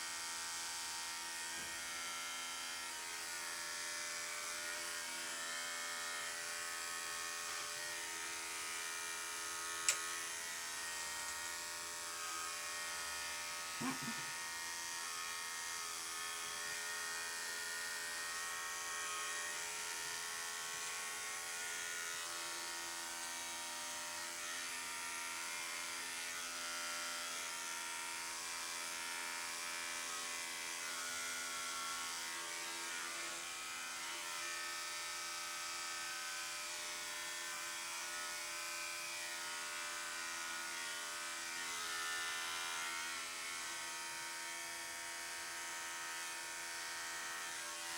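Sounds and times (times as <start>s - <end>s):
electric clippers buzzing: 1.6s - 47.9s.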